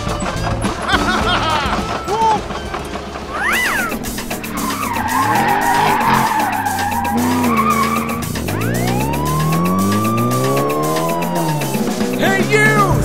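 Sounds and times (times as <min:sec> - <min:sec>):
car engine revving: 0:00.0 - 0:13.0
tyres screeching: 0:00.0 - 0:13.0.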